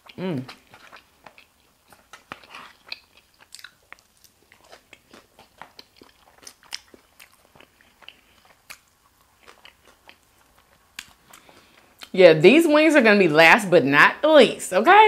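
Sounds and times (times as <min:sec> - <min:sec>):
chewing crisp salad: 0:00.0 - 0:12.2.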